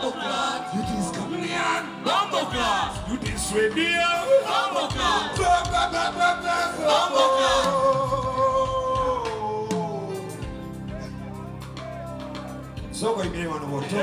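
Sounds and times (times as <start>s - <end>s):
backing music: 0.0s - 14.0s
man singing: 0.0s - 14.0s.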